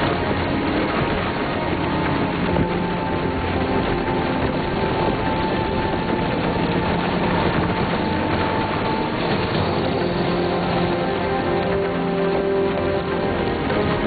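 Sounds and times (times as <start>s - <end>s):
held musical tones: 0.0s - 14.0s
rumbling wash of noise: 0.0s - 14.0s.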